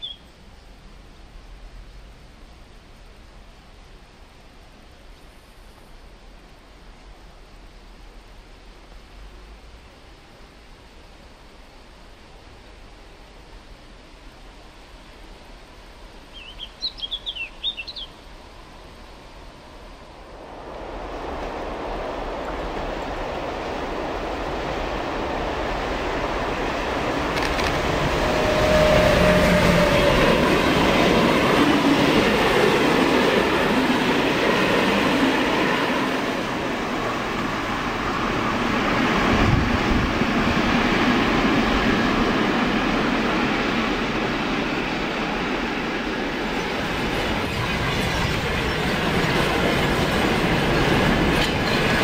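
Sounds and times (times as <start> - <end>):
freight train rumbling past: 0.0 - 52.0.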